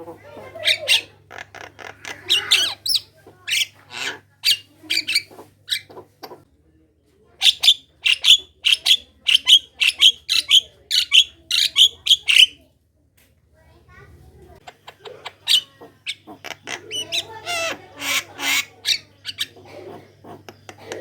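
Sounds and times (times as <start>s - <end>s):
myna chattering: 0.0s - 6.5s, 7.4s - 12.6s, 14.5s - 21.0s.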